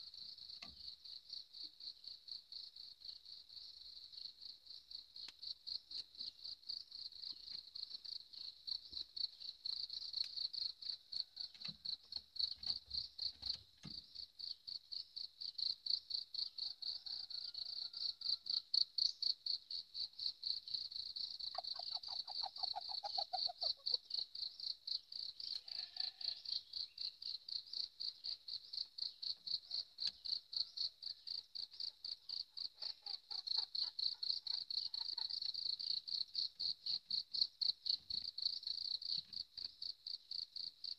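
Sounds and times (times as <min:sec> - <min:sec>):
insect chirping: 0:00.0 - 0:40.9
low insect trill: 0:00.0 - 0:40.9.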